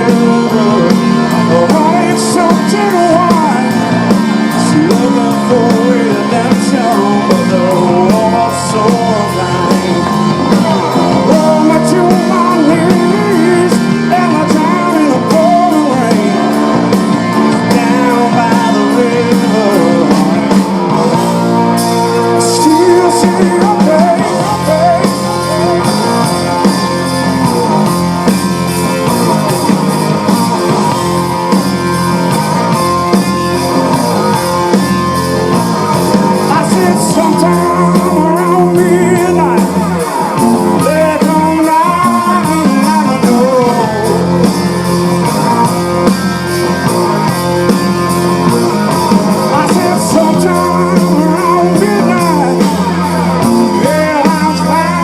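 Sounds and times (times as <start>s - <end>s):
blues-rock band playing: 0.0s - 55.0s
lead electric guitar: 0.0s - 55.0s.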